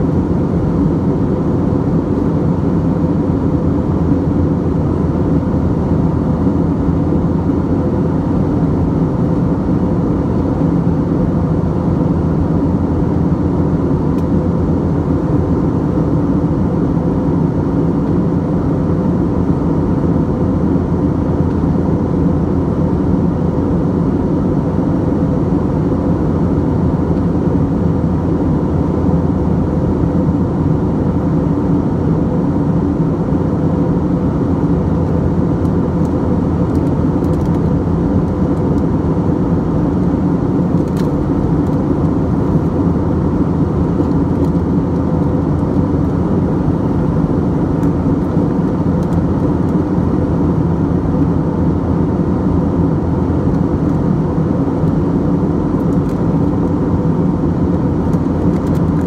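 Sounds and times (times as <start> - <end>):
jet engine drone: 0.0 - 59.0.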